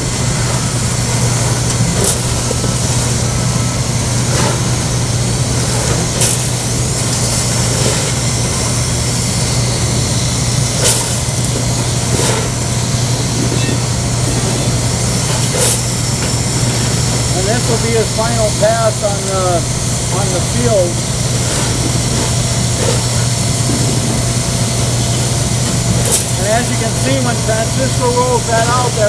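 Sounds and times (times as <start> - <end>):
hot-air plastic welder hissing: 0.0 - 29.0.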